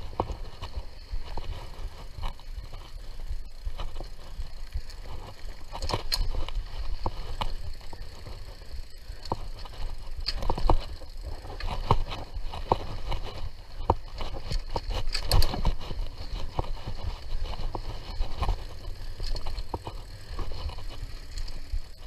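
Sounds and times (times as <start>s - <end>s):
bike knocking and rattling: 0.0s - 22.0s
tyres rumbling on dirt trail: 0.0s - 22.0s.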